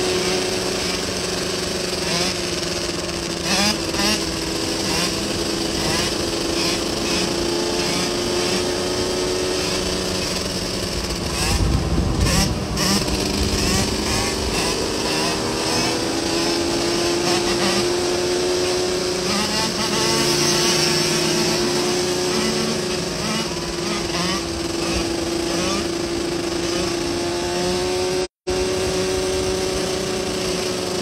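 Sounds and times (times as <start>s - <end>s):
motorcycle engine at steady revs: 0.0s - 31.0s.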